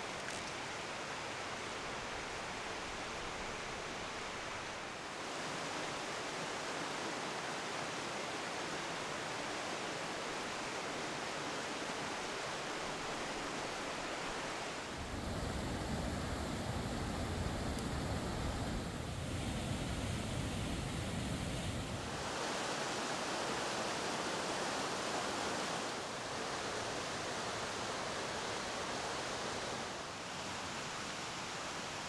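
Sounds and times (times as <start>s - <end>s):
river rushing over stones: 0.0s - 17.6s, 20.7s - 32.0s.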